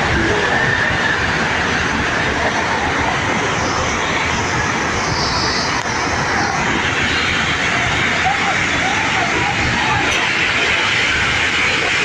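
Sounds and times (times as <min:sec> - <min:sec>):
fire roaring like a jet: 0:00.0 - 0:12.0.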